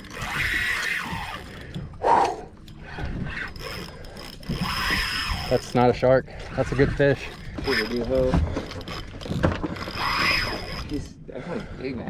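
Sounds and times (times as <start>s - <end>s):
fishing reel whirring and clicking: 0.0s - 11.8s.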